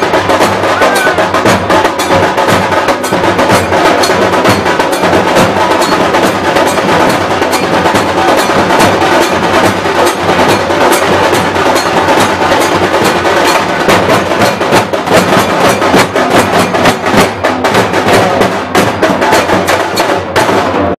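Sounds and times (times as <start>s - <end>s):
loud fast drumming: 0.0s - 21.0s.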